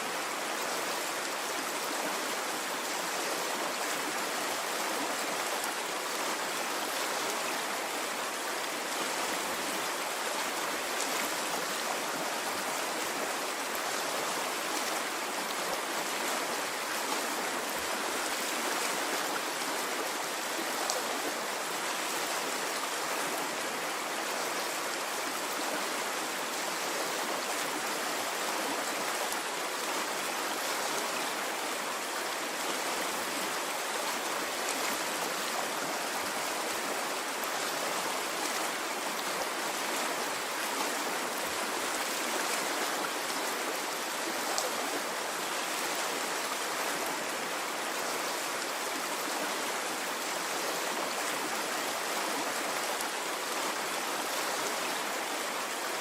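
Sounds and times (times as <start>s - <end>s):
water stream flowing: 0.0s - 56.0s.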